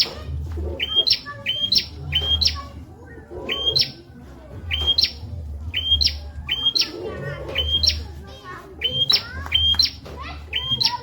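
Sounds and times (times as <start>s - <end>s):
prinia calling: 0.0s - 4.1s, 4.7s - 8.2s, 8.8s - 11.0s.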